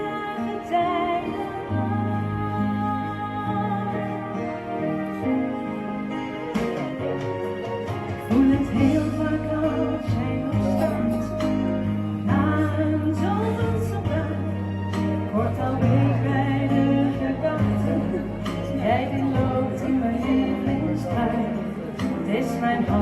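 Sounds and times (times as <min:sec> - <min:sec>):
instrumental accompaniment: 0:00.0 - 0:23.0
person singing: 0:00.0 - 0:23.0.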